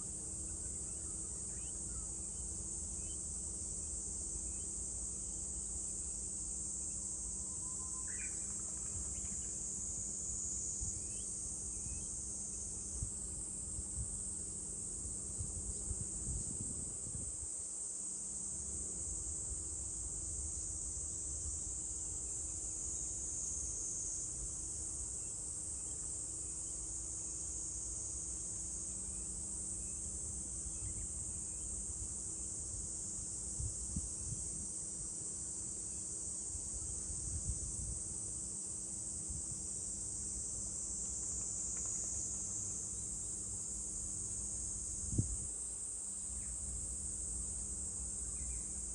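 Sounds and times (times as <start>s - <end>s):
cicadas droning: 0.0s - 48.9s.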